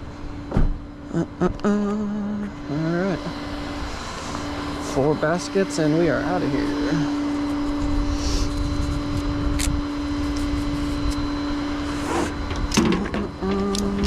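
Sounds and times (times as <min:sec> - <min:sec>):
truck engine whine and rumble: 0:00.0 - 0:14.0.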